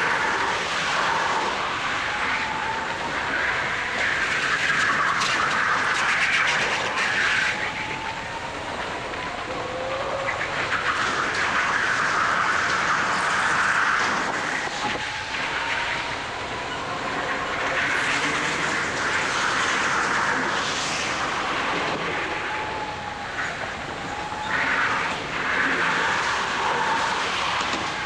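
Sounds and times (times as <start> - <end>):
go-kart motor and tyre noise: 0.0 - 28.0.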